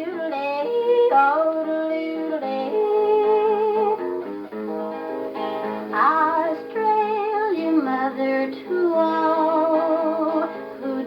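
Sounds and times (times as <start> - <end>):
gramophone record music: 0.0 - 11.0.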